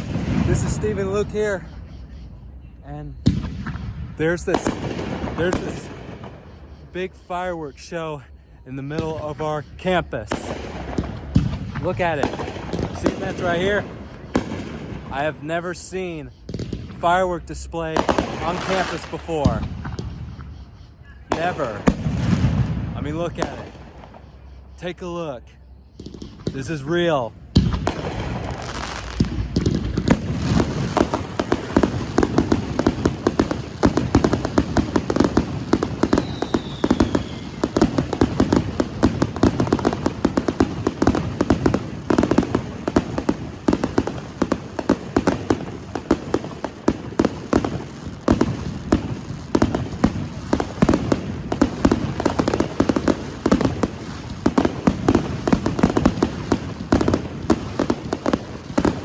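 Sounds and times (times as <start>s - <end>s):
falling firework whistle: 0.0s - 15.3s, 18.0s - 24.9s, 25.6s - 59.0s
fireworks bangs and crackles: 0.0s - 59.0s.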